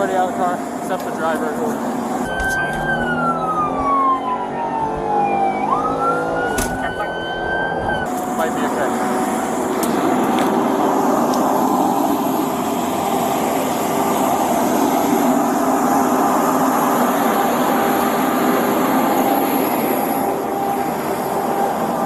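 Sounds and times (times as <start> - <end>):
car fire roaring: 0.0 - 22.0.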